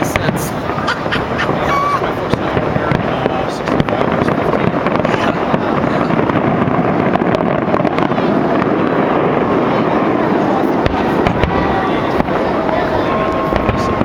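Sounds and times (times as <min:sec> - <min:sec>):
firework bangs: 0:00.0 - 0:14.0
loud steady fireworks din: 0:00.0 - 0:14.0.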